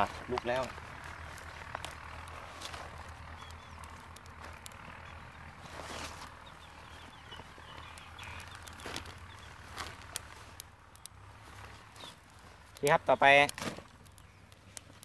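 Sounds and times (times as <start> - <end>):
fire crackling: 0.0 - 15.0
faint chirping calls: 1.0 - 12.2, 13.9 - 14.8.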